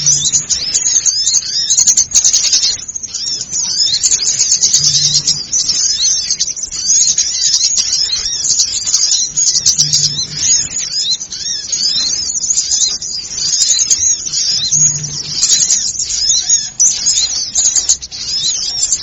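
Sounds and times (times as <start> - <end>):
songbirds chirping and twittering: 0.0 - 19.0.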